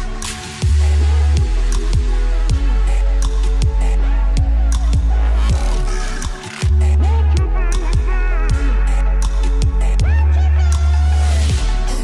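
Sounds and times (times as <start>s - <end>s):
deep bass notes: 0.0s - 12.0s.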